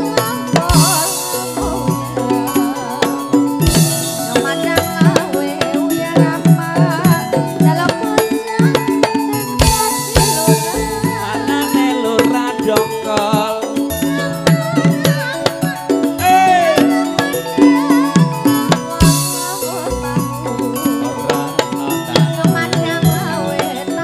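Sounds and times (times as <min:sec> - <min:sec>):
band playing: 0:00.0 - 0:24.0
hand drums beating: 0:00.0 - 0:24.0.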